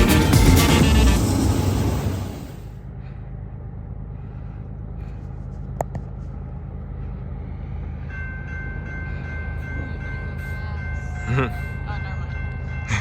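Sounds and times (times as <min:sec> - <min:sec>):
freight train rumble: 0:00.0 - 0:13.0.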